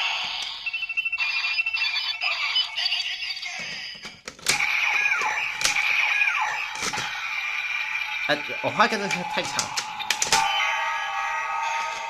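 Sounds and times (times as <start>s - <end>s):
toy electronic jingle: 0.0s - 4.0s, 4.6s - 12.0s.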